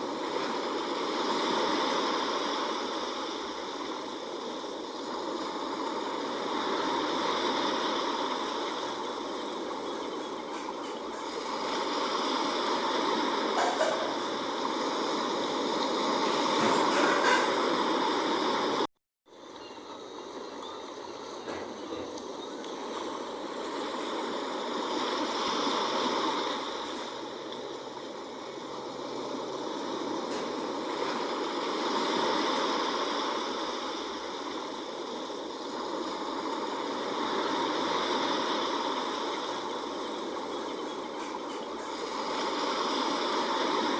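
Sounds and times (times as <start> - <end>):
sea waves washing ashore: 0.0 - 43.9.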